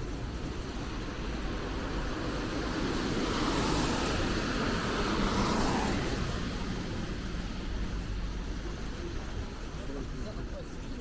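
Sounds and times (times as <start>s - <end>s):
city traffic hum: 0.0s - 11.0s.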